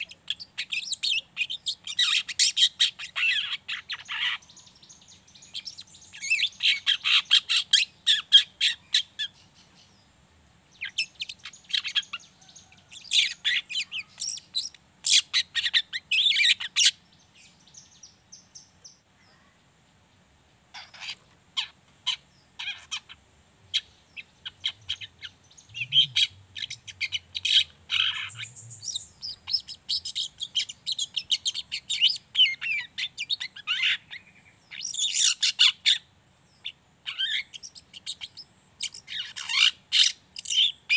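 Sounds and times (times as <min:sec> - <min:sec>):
bird singing rapid high twitter: 0:00.0 - 0:10.0, 0:10.8 - 0:19.4, 0:20.7 - 0:40.9.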